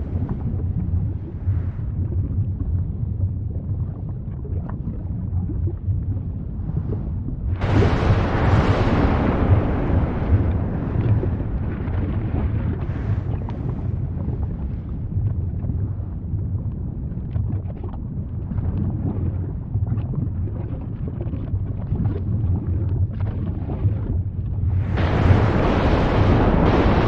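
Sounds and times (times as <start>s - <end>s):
volcano rumbling: 0.0s - 20.6s, 22.0s - 27.0s.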